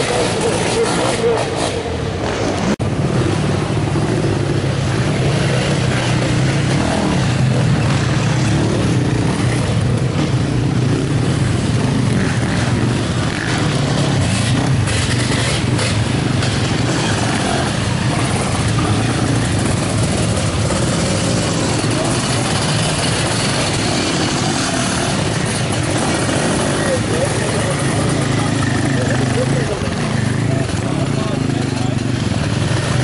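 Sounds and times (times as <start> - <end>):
racing engines droning: 0.0 - 33.0.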